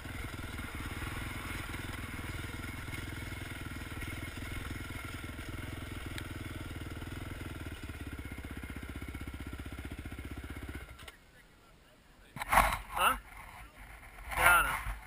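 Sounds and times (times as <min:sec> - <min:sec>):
quad bike engine idling: 0:00.0 - 0:11.4, 0:12.4 - 0:15.0.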